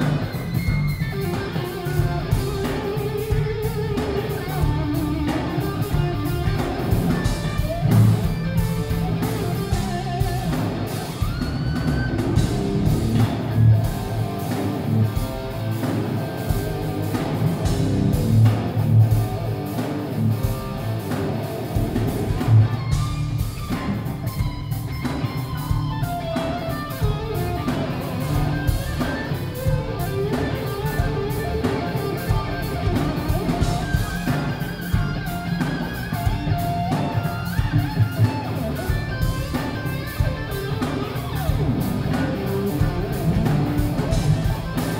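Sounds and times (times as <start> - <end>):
bass: 0.0 - 44.9
drum kit: 0.0 - 44.9
lead electric guitar: 0.0 - 44.9.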